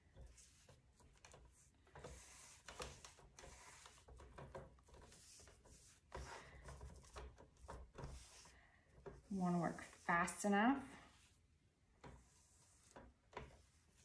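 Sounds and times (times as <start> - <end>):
paintbrush swishing: 0.0 - 14.0.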